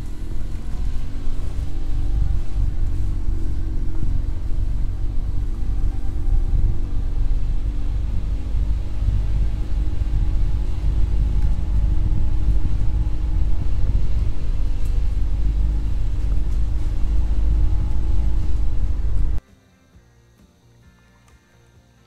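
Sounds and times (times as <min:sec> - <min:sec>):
vehicle engine rumbling: 0:00.0 - 0:19.4.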